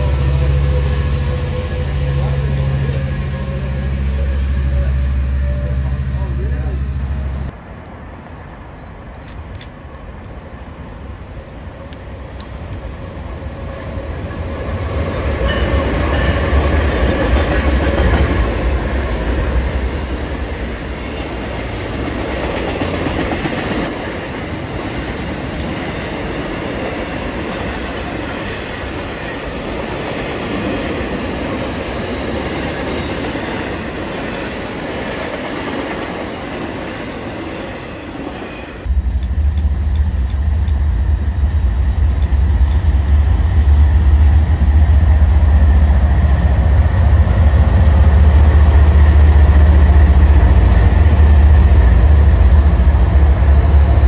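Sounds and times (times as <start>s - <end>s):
diesel locomotives passing: 0.0s - 54.0s
freight train rolling past: 0.0s - 54.0s.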